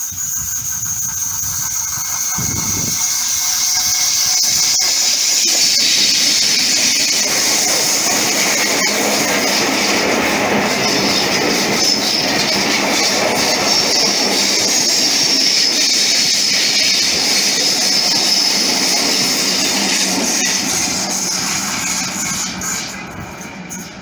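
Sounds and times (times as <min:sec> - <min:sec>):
train running noise: 0:00.0 - 0:24.0
wheel flanges squealing: 0:00.0 - 0:24.0
wheels clicking over rails: 0:00.0 - 0:24.0.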